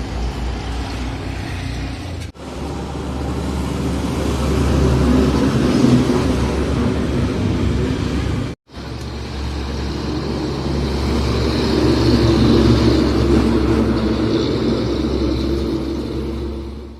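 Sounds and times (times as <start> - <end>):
road noise: 0.0 - 16.9
truck diesel engine running: 0.0 - 16.9.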